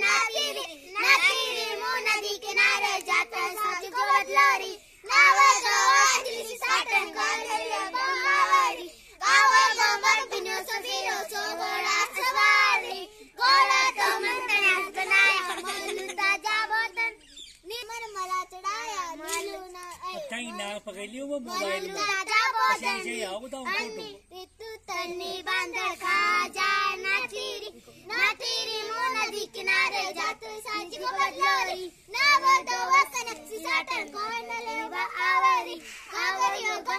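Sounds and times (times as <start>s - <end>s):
girls singing folk song: 0.0s - 17.3s, 24.3s - 36.9s.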